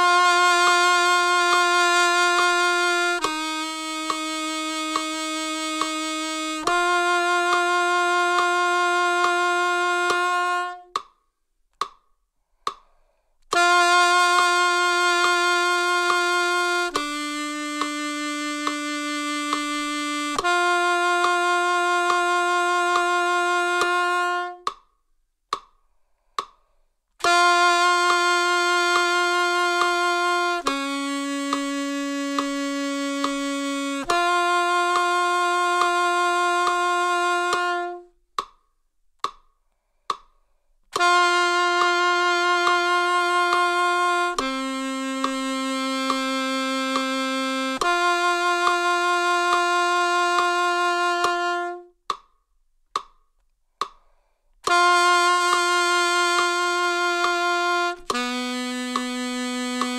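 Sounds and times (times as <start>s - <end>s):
saxophone playing long tones: 0.0s - 11.0s, 13.5s - 24.7s, 27.2s - 38.2s, 40.9s - 52.0s, 54.6s - 59.9s
metronome ticking: 0.0s - 59.9s.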